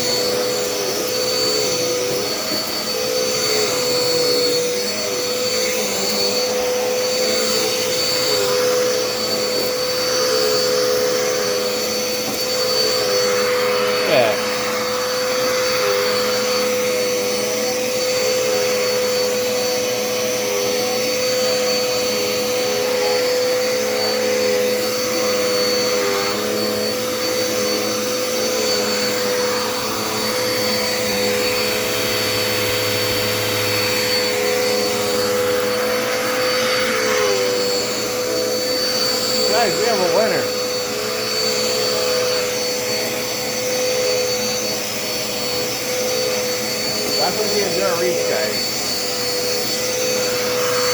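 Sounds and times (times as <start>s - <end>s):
vacuum cleaner motor whine: 0.0s - 50.9s.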